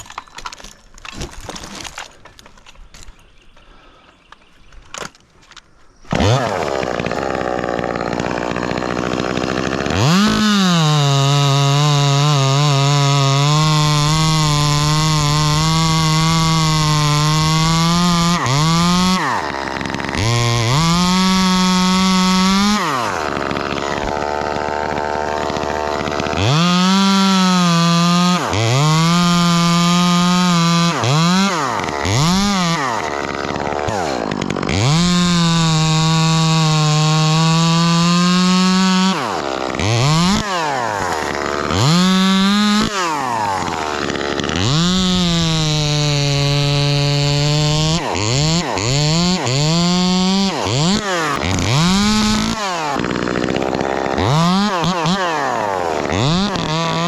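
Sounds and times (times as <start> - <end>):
chainsaw idling and revving: 6.1 - 57.0.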